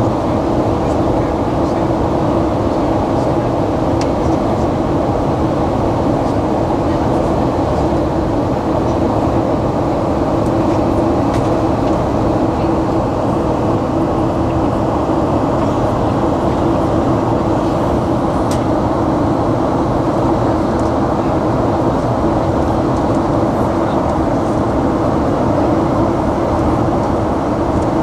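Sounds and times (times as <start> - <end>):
jet cabin engine rumble: 0.0 - 28.0
steady hum: 0.0 - 28.0.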